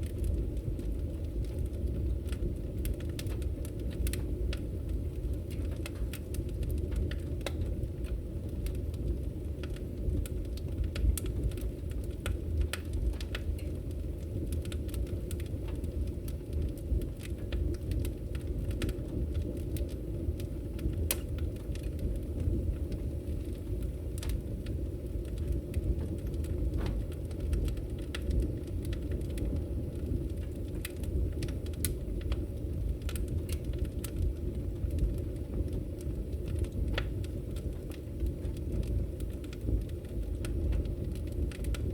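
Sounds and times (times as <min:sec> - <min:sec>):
fire flames rumbling: 0:00.0 - 0:41.9
logs crackling and popping: 0:00.0 - 0:41.9.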